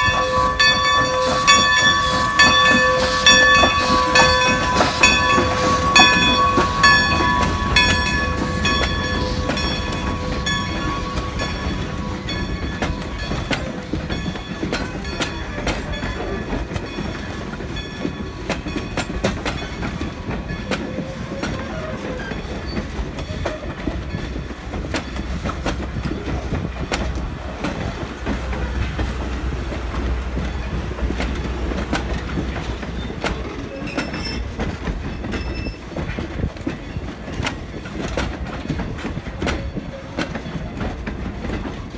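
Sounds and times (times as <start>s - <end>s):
train wheels clicking over rail joints: 0.0s - 41.9s.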